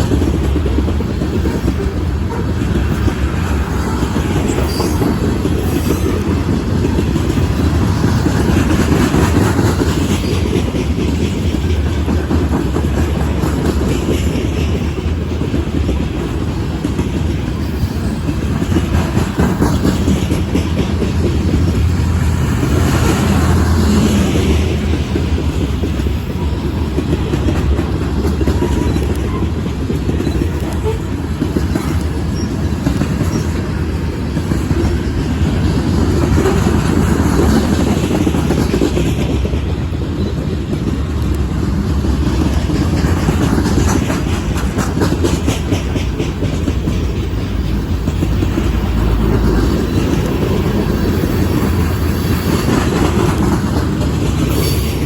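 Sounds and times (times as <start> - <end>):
rumble of wheels on track: 0.0 - 55.0
wheels clicking over rail joints: 0.0 - 55.0.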